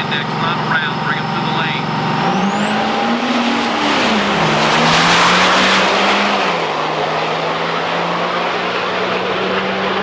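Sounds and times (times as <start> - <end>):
truck engine and exhaust roar: 0.0 - 10.0.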